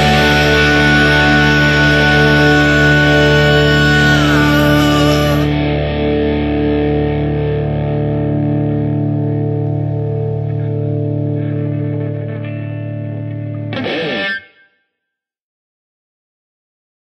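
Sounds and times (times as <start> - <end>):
distorted electric guitar chord: 0.0 - 14.7.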